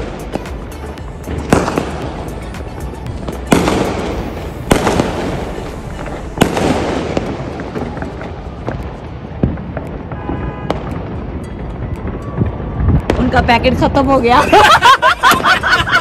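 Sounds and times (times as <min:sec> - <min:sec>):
fireworks bangs: 0:00.0 - 0:14.2
background music: 0:00.0 - 0:16.0
fireworks crackling: 0:00.0 - 0:16.0.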